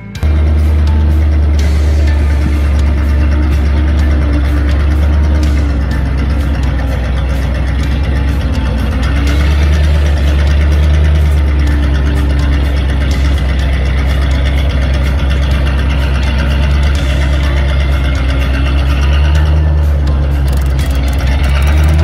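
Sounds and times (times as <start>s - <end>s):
tracked vehicle engine running: 0.0s - 22.0s.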